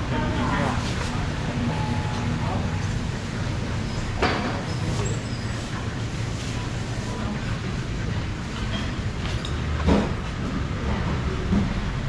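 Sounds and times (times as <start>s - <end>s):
market background rumble: 0.0s - 12.0s.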